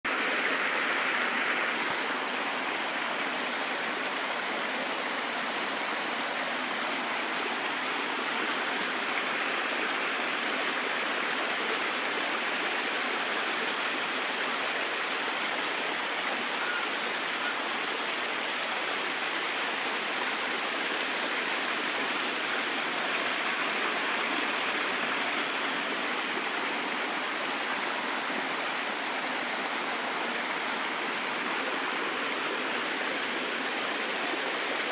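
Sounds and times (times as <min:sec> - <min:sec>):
creek water running over rocks: 0:00.0 - 0:34.9.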